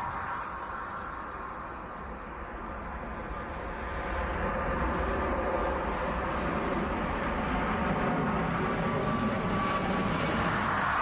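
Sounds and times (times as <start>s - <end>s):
jet airliner rumbling overhead: 0.0s - 11.0s.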